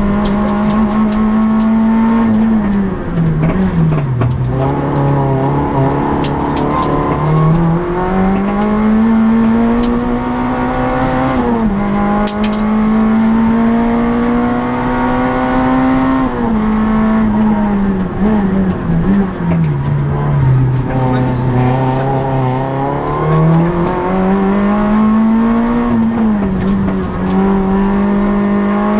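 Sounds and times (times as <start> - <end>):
rally car engine revving hard: 0.0 - 28.9.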